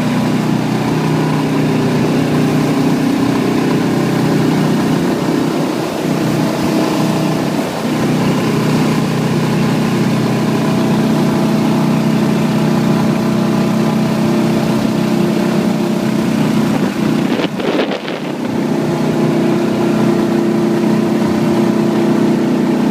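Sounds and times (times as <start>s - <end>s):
boat motor running: 0.0s - 22.9s.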